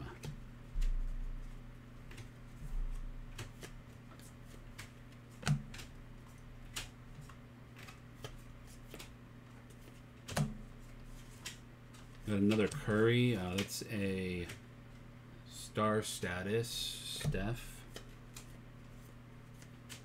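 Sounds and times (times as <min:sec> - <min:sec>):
cards flipping and sliding: 0:00.8 - 0:15.0, 0:17.2 - 0:20.0.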